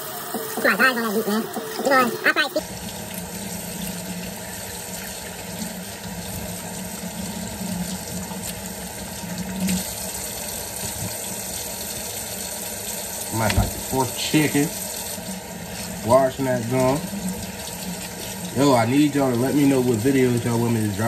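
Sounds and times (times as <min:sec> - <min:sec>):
faucet running into sink: 0:00.0 - 0:21.0.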